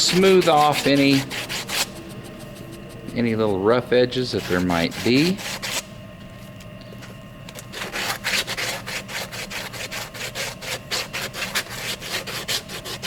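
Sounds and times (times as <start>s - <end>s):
sandpaper rubbing acrylic edge: 0.0s - 5.9s, 7.7s - 13.0s.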